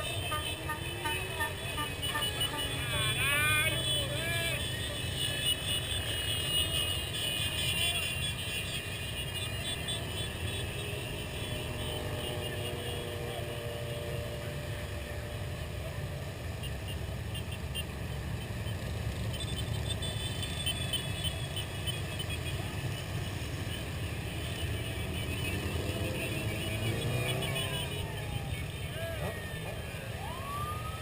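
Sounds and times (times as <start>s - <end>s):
faint voices: 0.0s - 17.2s, 22.1s - 31.0s
motorcycles rumbling: 0.0s - 31.0s.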